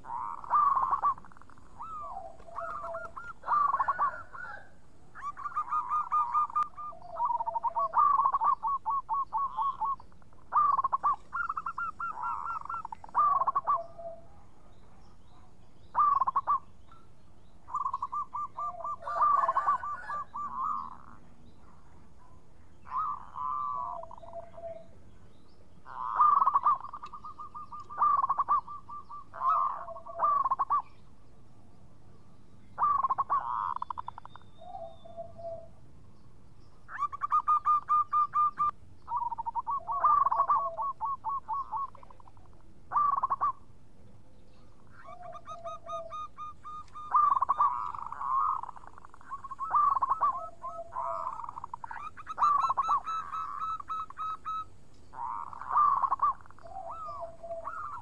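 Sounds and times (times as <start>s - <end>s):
dove cooing: 0.0s - 17.0s, 17.6s - 25.0s, 25.8s - 30.9s, 32.8s - 35.8s, 36.9s - 43.6s, 44.8s - 58.0s.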